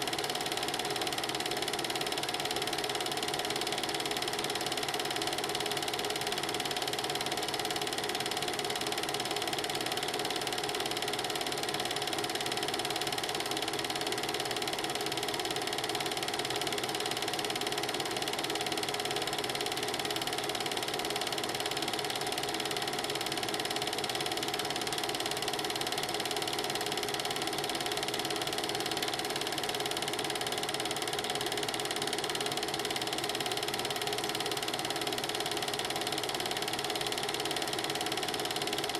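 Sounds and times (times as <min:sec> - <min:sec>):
film projector rattle and whir: 0:00.0 - 0:38.9.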